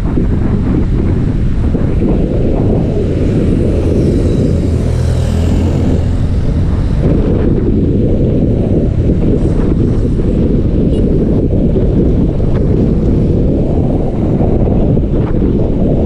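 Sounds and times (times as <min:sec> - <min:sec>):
wind buffeting microphone: 0:00.0 - 0:16.0
motorcycle engine: 0:00.3 - 0:13.6.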